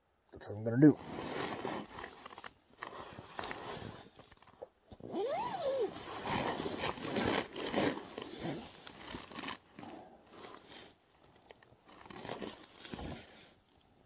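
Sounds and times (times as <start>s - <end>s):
sleeping bag nylon rustling: 1.0s - 13.7s.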